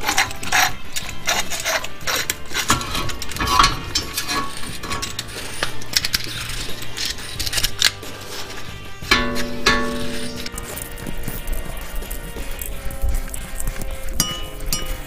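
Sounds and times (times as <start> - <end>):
metal tool clicking and scraping: 0.0 - 15.0.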